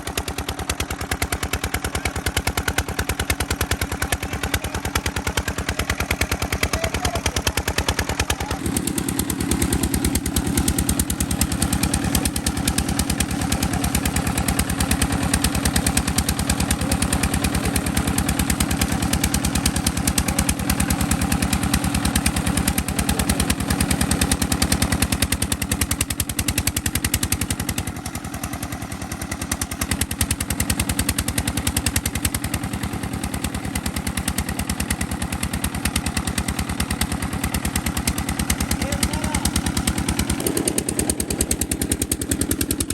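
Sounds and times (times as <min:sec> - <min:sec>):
diesel engine driving pump: 0:00.0 - 0:42.9.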